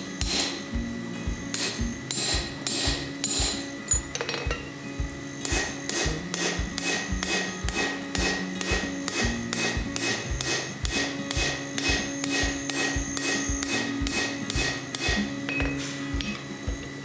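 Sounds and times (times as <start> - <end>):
hammer striking hot metal on anvil: 0.0 - 16.8.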